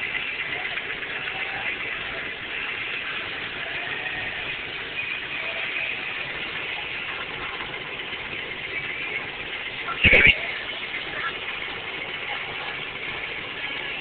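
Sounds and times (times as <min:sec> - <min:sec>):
air conditioner blowing air: 0:00.0 - 0:14.0.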